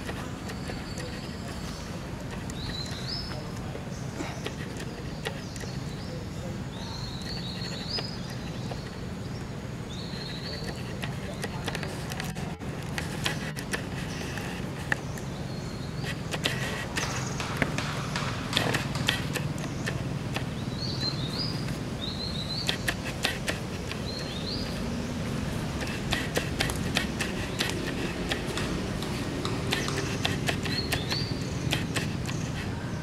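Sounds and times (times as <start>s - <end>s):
high chirping calls: 0.0s - 33.0s.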